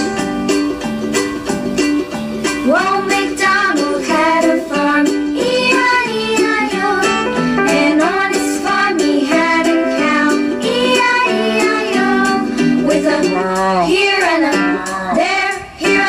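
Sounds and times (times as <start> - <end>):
song over speaker: 0.0 - 16.0.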